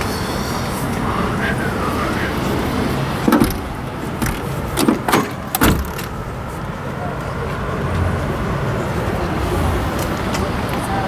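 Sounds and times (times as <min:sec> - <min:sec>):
hubbub of voices: 0:00.0 - 0:11.0
outdoor noise: 0:00.0 - 0:11.0.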